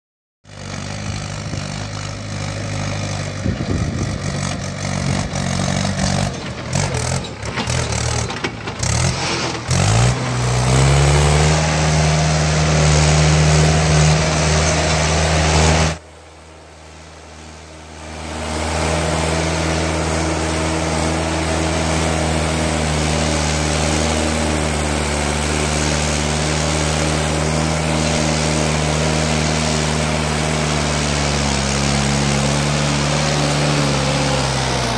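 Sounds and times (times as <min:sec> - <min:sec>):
tractor diesel engine labouring: 0:00.5 - 0:34.9.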